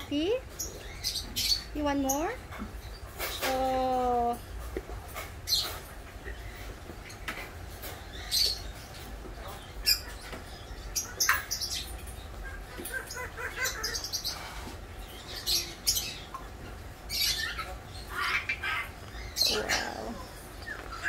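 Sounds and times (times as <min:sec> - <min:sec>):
soft bird sounds: 0:00.0 - 0:21.0.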